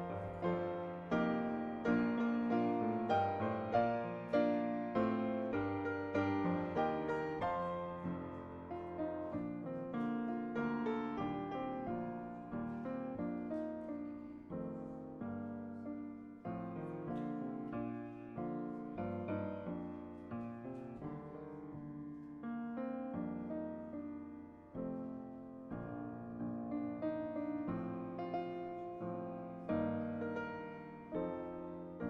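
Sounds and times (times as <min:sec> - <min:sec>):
piano playing: 0:00.0 - 0:32.0.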